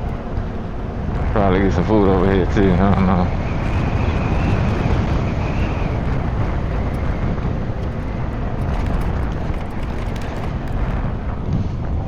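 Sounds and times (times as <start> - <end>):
road noise rumble: 0.0 - 12.0
wind buffeting microphone: 0.0 - 12.0.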